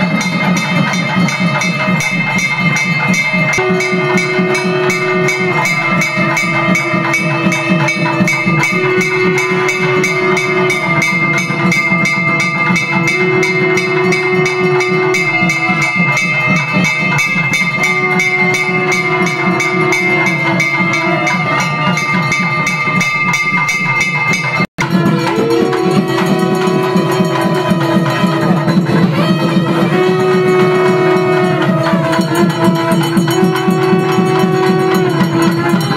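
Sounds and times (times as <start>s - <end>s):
fast continuous percussion: 0.0s - 35.9s
wind instrument long notes: 0.0s - 35.9s.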